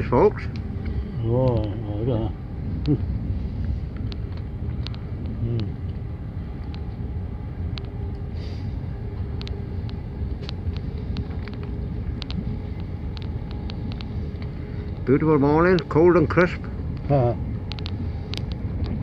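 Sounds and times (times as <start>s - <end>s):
steady hum: 0.0s - 19.0s
train low rumble inside carriage: 0.0s - 19.0s.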